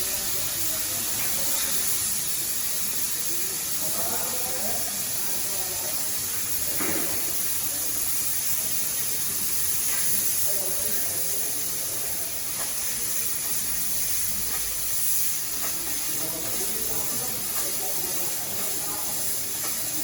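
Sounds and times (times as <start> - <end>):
gas cutting torch hissing: 0.0 - 20.0.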